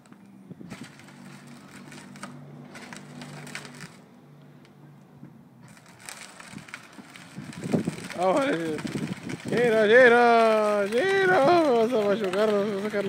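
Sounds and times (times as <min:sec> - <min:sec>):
plastic wheels on concrete: 0:00.0 - 0:04.8, 0:05.6 - 0:13.0
toy car motor humming: 0:00.7 - 0:04.0, 0:05.6 - 0:13.0.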